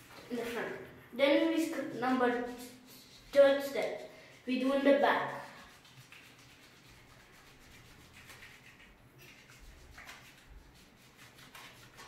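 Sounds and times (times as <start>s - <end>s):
soapy hands rubbing together: 1.4s - 12.0s.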